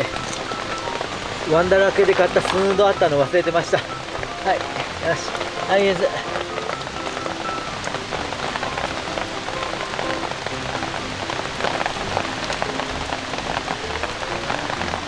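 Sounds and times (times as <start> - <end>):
heavy rain falling: 0.0 - 15.0
soft background music: 0.0 - 15.0.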